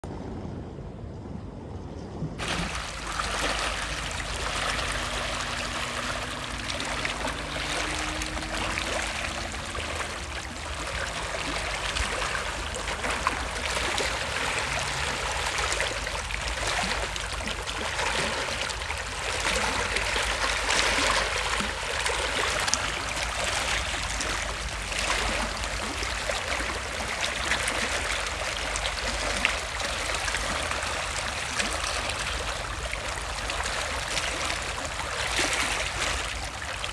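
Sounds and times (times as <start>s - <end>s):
water lapping over rock: 2.4s - 36.9s.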